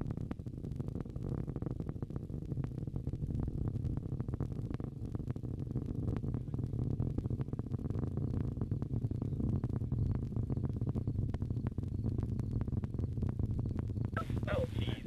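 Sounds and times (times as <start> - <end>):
rocket engines rumbling and crackling: 0.0 - 15.0.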